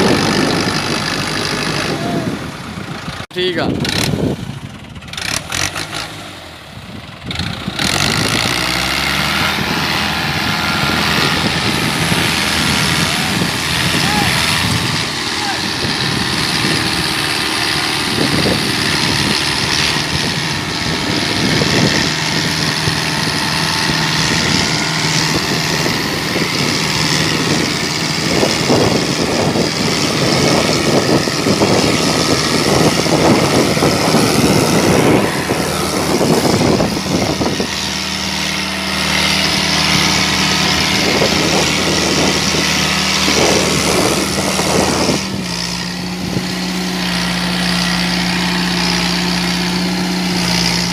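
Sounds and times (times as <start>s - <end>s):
tractor diesel engine revving: 0.0s - 50.9s.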